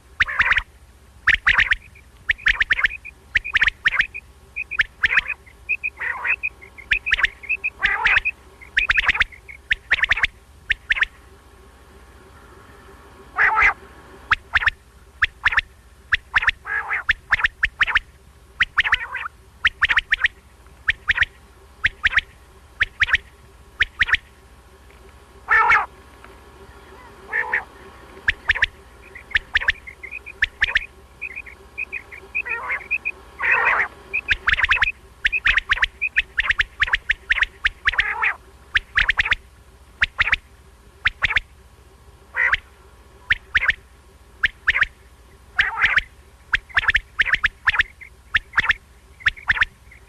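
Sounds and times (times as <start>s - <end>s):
quail calling: 0.0s - 11.4s, 12.2s - 26.0s, 26.6s - 41.6s, 42.3s - 50.0s.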